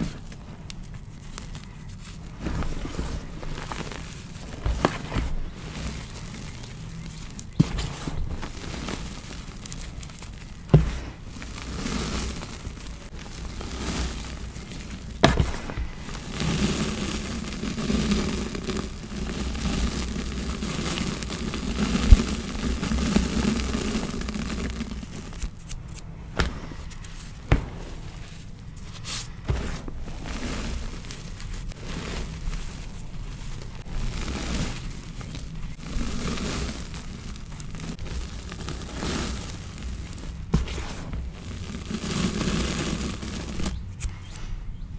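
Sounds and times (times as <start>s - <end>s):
gloved hands crushing chalk: 0.0s - 44.5s
sharp cracks of chalk: 3.6s - 31.7s, 33.8s - 44.5s.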